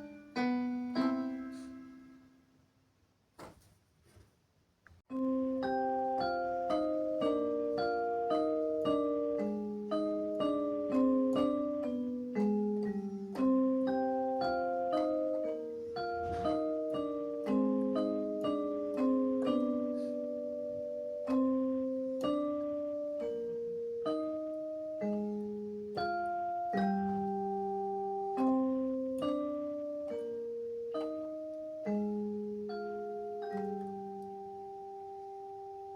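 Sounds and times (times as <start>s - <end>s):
gentle melody of ringing notes: 0.0s - 2.5s, 5.1s - 35.9s.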